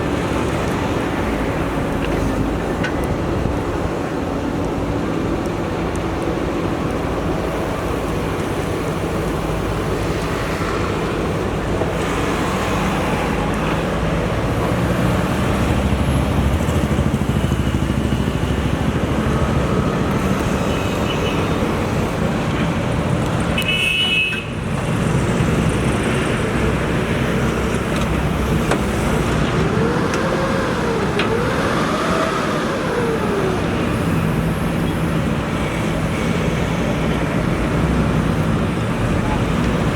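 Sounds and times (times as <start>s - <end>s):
diesel engine running: 0.0s - 23.5s, 24.6s - 39.9s.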